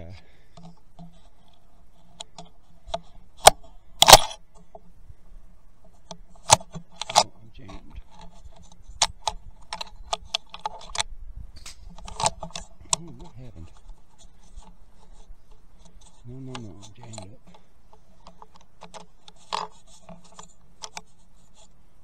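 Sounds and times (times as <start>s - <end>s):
rifle handling clicks and knocks: 0.5s - 5.0s, 5.8s - 21.8s.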